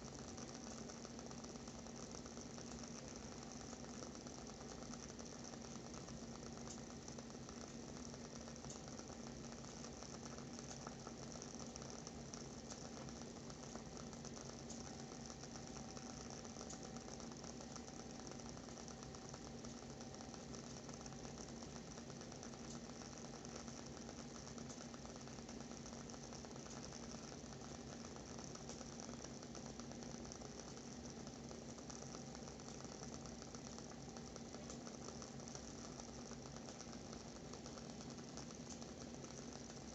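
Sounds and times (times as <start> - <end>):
candle wick crackling: 0.0 - 39.9
faint steady hum: 0.0 - 39.9.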